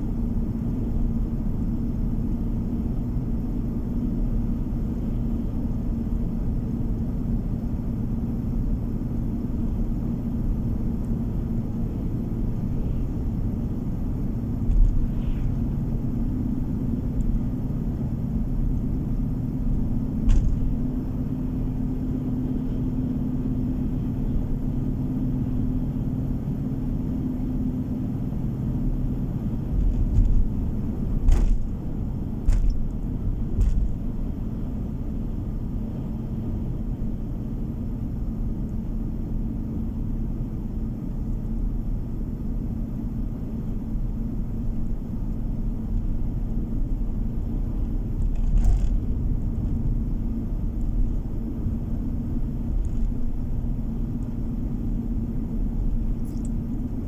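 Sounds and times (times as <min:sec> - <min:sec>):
tyres and engine rumbling: 0:00.0 - 0:57.0.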